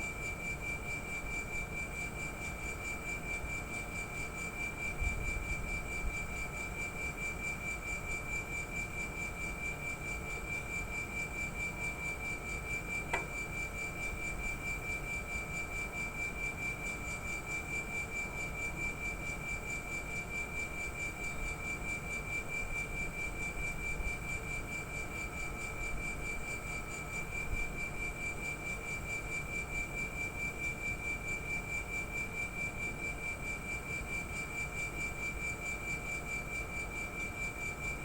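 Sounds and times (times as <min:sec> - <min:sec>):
compressor high-pitched whine: 0:00.0 - 0:38.0.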